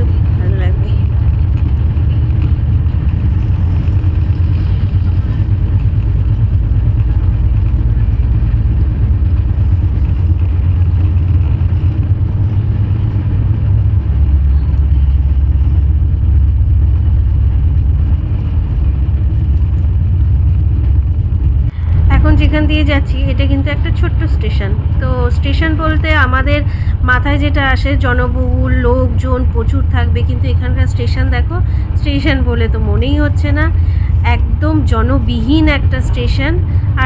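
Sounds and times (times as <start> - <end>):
train coach rumbling on rails: 0.0 - 37.0.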